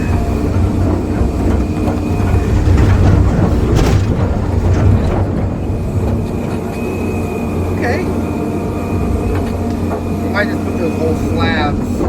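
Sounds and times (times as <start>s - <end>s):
diesel engine under load: 0.0s - 12.0s
rattling and clanking: 0.0s - 12.0s.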